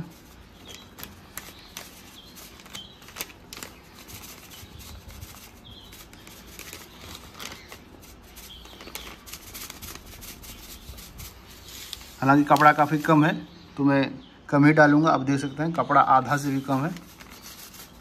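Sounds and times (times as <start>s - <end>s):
hands rustling powder and clothes: 0.0s - 13.4s, 16.2s - 18.0s.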